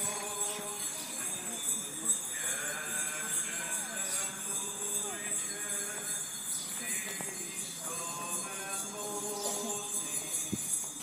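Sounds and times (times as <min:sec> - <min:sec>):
group singing a hymn: 0:00.0 - 0:01.0, 0:02.3 - 0:10.8
hand bells jingling: 0:00.0 - 0:11.0.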